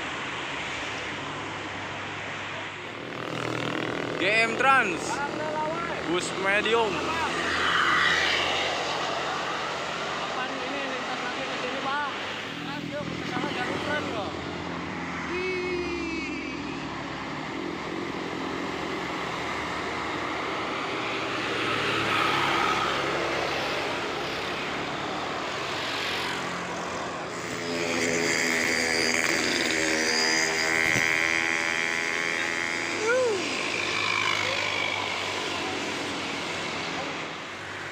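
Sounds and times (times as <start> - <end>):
heavy vehicle engine drone: 0.0 - 37.9
road traffic: 0.0 - 37.9.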